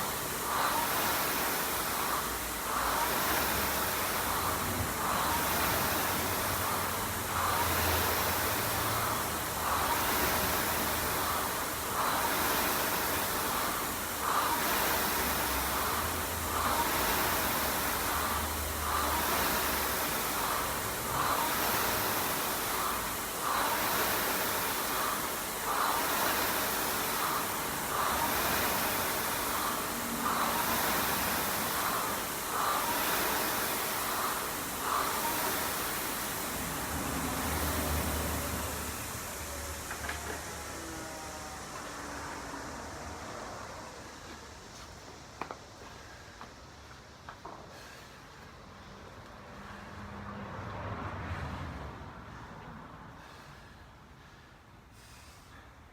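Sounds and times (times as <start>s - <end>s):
rowing machine flywheel whooshing: 0.0s - 47.2s.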